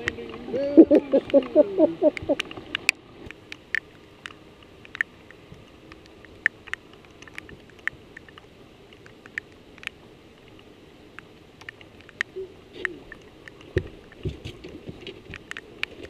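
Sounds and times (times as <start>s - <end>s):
faint low hum: 0.0s - 16.0s
raindrops ticking: 0.0s - 16.0s.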